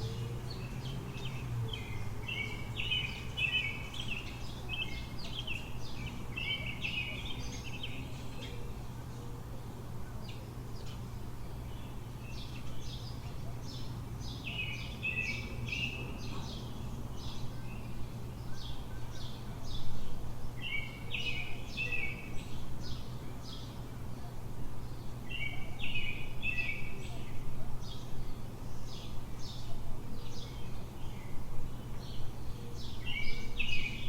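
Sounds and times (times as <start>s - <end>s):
birds chirping: 0.0s - 34.0s
low city hum: 0.0s - 34.0s.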